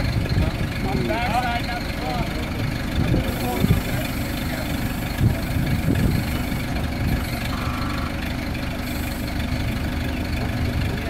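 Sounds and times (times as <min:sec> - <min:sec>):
forklift engine running at low revs: 0:00.0 - 0:11.0.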